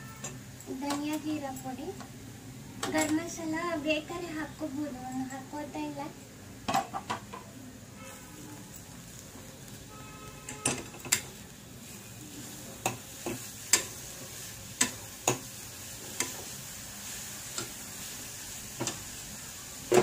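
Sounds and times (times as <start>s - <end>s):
faint sizzle of frying: 0.0s - 20.0s.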